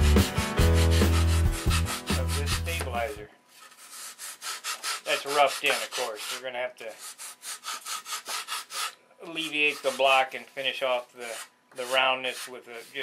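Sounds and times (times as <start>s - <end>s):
sandpaper rubbing wood: 0.6s - 13.0s.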